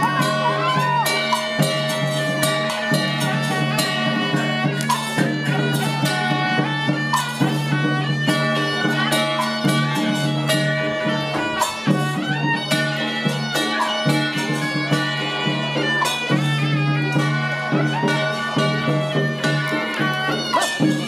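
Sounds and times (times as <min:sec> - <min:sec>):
cymbal strikes: 0:00.0 - 0:21.0
drum strikes: 0:00.0 - 0:21.0
reed wind instrument melody: 0:00.0 - 0:21.0.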